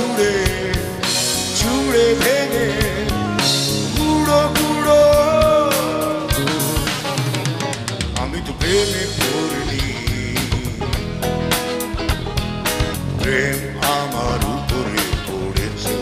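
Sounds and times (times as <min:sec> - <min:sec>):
person singing: 0:00.0 - 0:07.4, 0:08.1 - 0:11.3, 0:13.2 - 0:16.0
drum kit: 0:00.0 - 0:16.0
electric guitars: 0:00.0 - 0:16.0.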